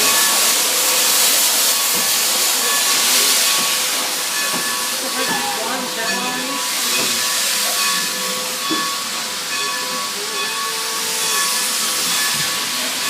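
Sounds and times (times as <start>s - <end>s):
locomotive steam hissing: 0.0s - 13.0s.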